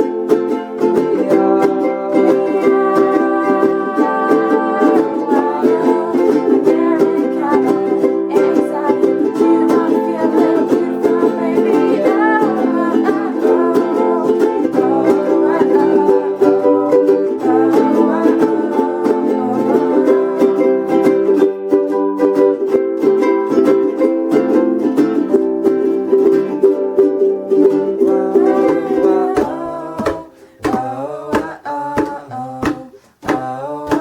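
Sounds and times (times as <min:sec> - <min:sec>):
voices singing: 0:00.0 - 0:22.2, 0:27.5 - 0:34.0
ukuleles strumming chords: 0:00.0 - 0:34.0.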